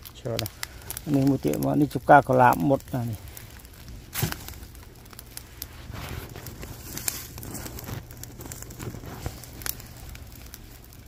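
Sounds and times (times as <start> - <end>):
fire crackling and popping: 0.0 - 11.0
rustling of sticks and paper: 0.0 - 11.0.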